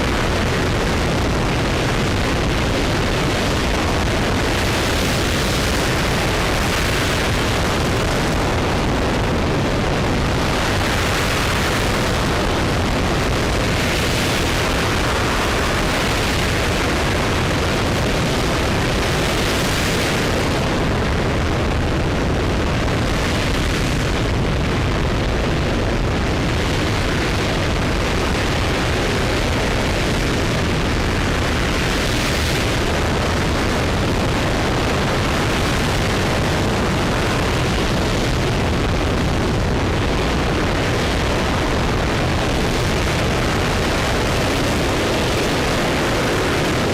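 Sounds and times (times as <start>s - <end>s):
rocket engine roaring: 0.0s - 46.9s.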